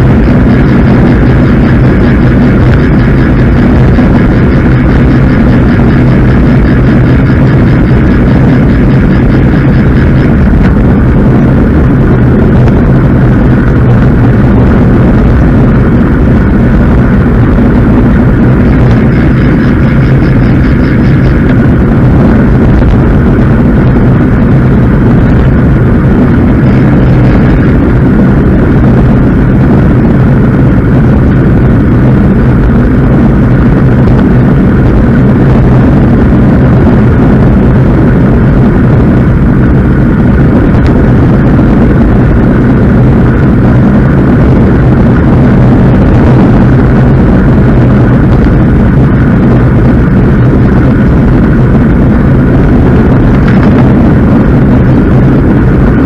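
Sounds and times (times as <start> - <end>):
bicycle road rumble: 0.0 - 56.0
wind rush on microphone: 0.0 - 56.0.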